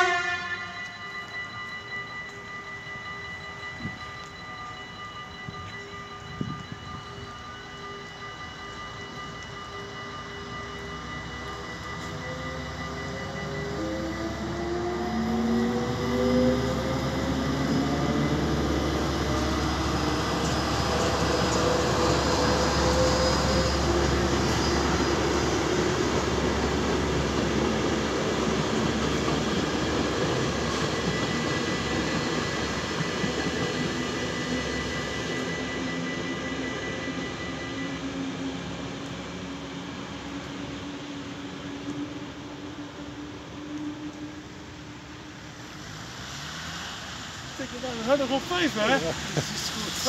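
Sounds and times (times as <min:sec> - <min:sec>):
locomotive engine: 0:00.0 - 0:50.0.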